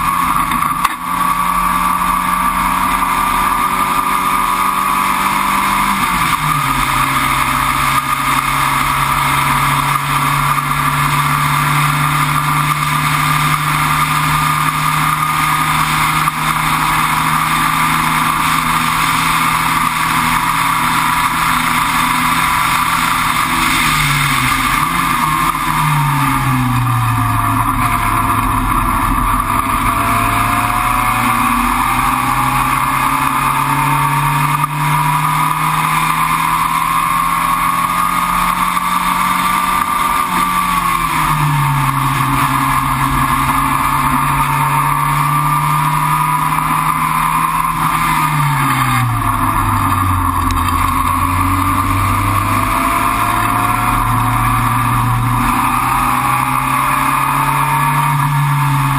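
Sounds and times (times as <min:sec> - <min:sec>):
race car engine: 0:00.0 - 0:58.9
wind and road noise: 0:00.0 - 0:58.9.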